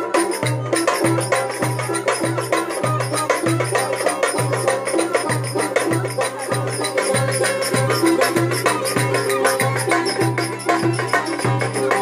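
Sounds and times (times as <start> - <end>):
ornamented wavering melody: 0.0 - 12.0.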